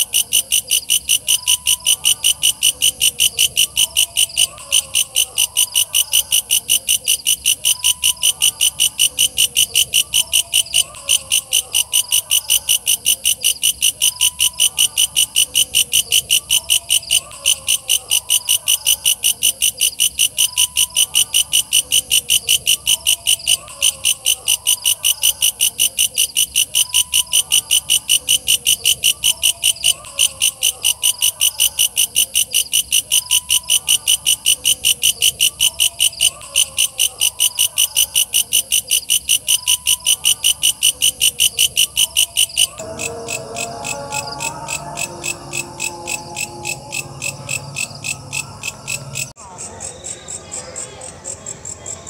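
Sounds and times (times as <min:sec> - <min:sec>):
fainter insect calls: 0:00.0 - 0:50.0.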